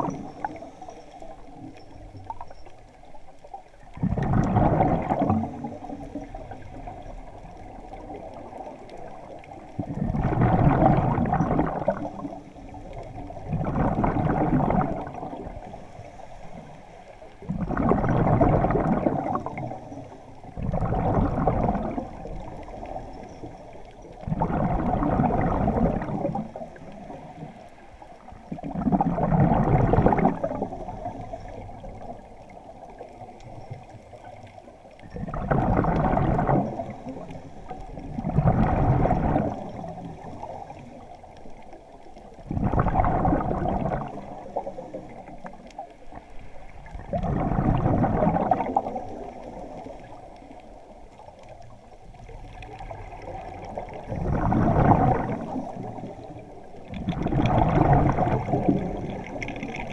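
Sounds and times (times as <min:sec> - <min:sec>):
exhaled air bubbling underwater: 0:00.0 - 0:59.9.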